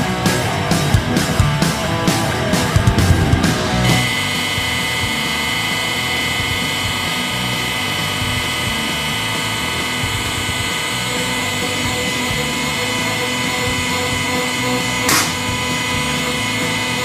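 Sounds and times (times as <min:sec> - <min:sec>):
rock music: 0:00.0 - 0:17.0
hydraulic pump motor whine: 0:02.9 - 0:17.0.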